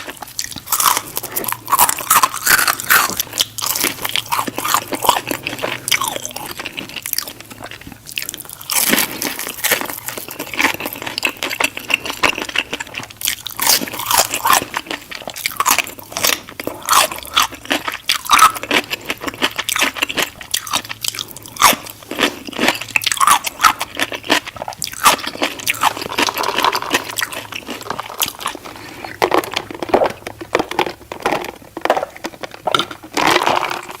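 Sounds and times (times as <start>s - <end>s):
chewing crispy chicken: 0.0s - 34.0s
crunching of crispy crust: 0.0s - 34.0s.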